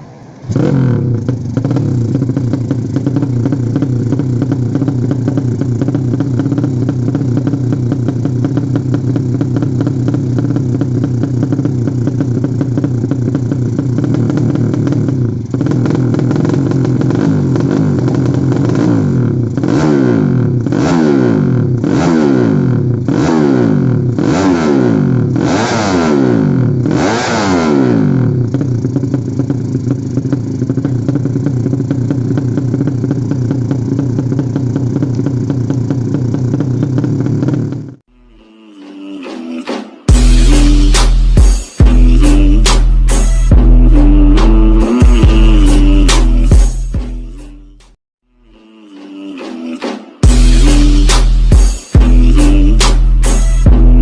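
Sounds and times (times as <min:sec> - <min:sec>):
motorcycle engine idling: 0:00.0 - 0:25.5, 0:26.4 - 0:27.1, 0:27.9 - 0:38.1, 0:40.1 - 0:47.9, 0:50.2 - 0:54.0
motorcycle engine revving: 0:00.0 - 0:38.1, 0:40.1 - 0:48.0, 0:50.2 - 0:54.0.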